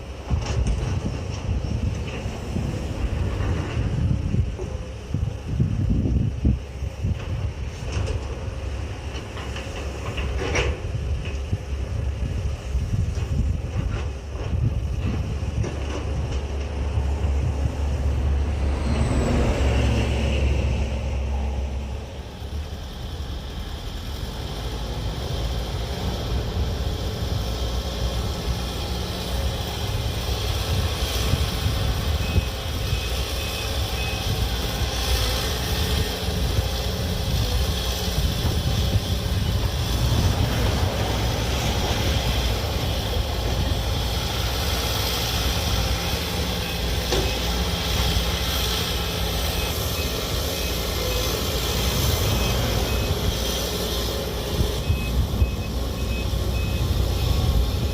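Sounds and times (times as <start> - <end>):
diesel engine rumbling: 0.0 - 57.9.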